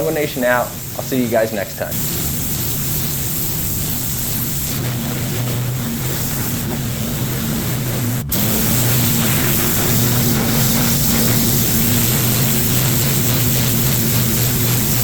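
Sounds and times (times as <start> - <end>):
pressure washer engine running: 0.0 - 15.0
water spray hissing on concrete: 0.0 - 15.0.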